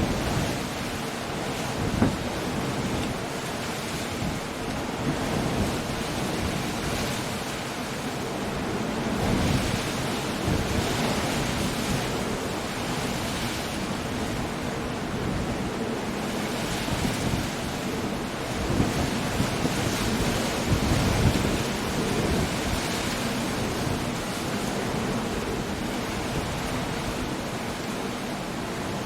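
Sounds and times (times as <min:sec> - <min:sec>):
rain: 0:00.0 - 0:29.0
waves breaking against rocks: 0:00.0 - 0:29.0
wind: 0:00.0 - 0:29.0.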